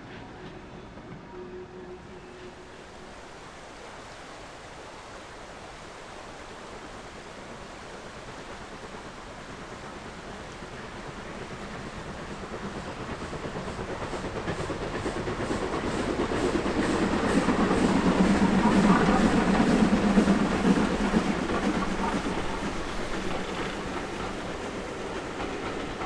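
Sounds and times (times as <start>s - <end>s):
steam train passing: 0.0s - 26.0s.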